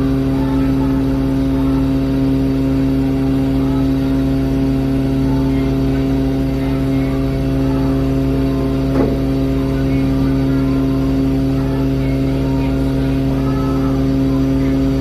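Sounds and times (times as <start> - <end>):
ship diesel engine humming: 0.0 - 15.0.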